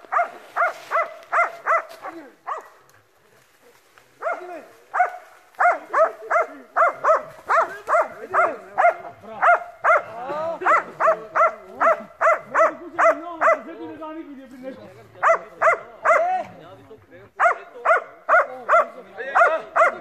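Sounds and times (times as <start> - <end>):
dog barking: 0.1 - 2.8, 4.2 - 13.7, 15.2 - 16.4, 17.4 - 20.0.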